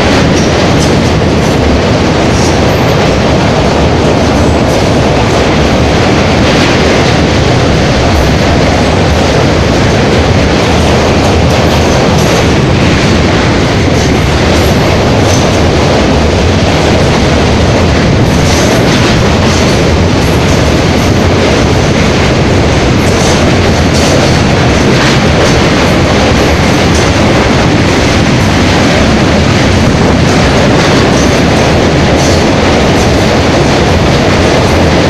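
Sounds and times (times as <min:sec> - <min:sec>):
train wheels rumbling and clattering: 0:00.0 - 0:35.0.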